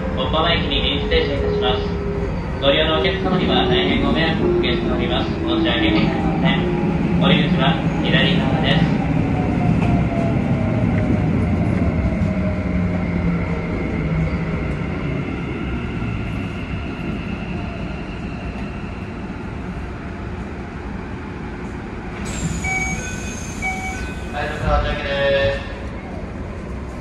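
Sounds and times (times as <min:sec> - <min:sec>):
train inverter whining: 0:00.0 - 0:27.0
train running rumble: 0:00.0 - 0:27.0.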